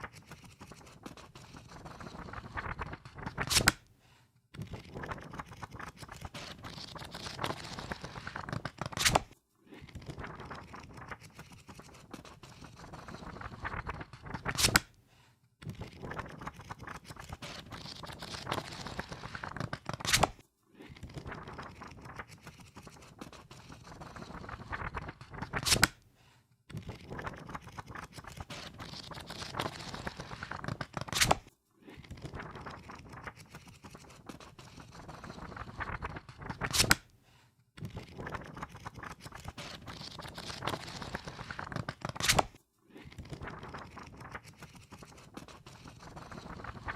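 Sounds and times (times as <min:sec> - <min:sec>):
book pages riffled: 0:00.0 - 0:03.8, 0:04.6 - 0:14.8, 0:15.7 - 0:20.4, 0:21.0 - 0:26.0, 0:26.7 - 0:37.0, 0:37.8 - 0:46.9.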